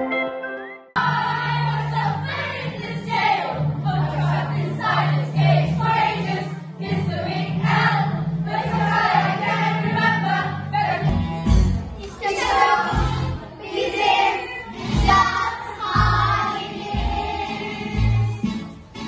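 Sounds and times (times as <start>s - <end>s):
musical accompaniment with bass: 0.0s - 19.0s
group of voices singing: 1.0s - 11.1s, 12.0s - 18.8s.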